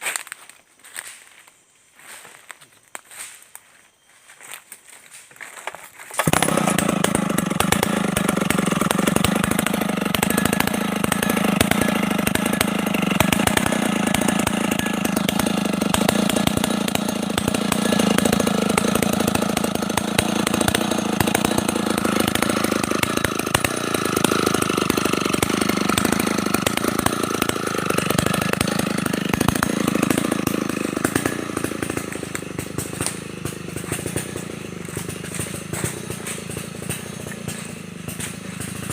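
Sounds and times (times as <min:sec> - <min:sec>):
chainsaw running: 0:05.6 - 0:38.9.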